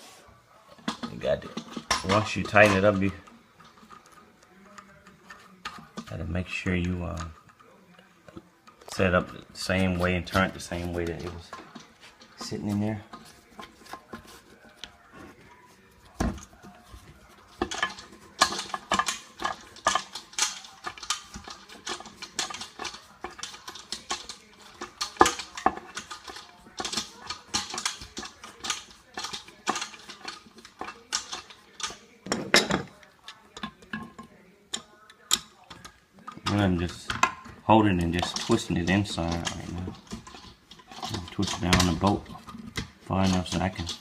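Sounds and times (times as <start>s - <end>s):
plastic parts clicking and scraping: 0.7s - 15.4s, 16.0s - 44.0s.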